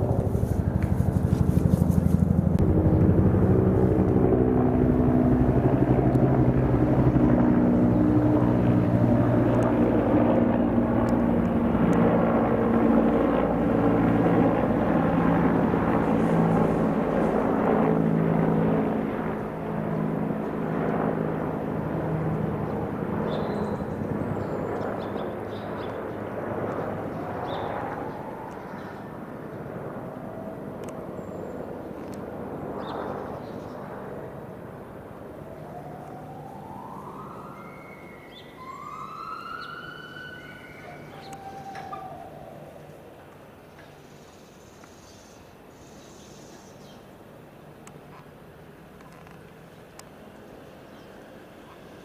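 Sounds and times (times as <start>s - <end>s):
aircraft engine drone overhead: 0.0s - 52.0s.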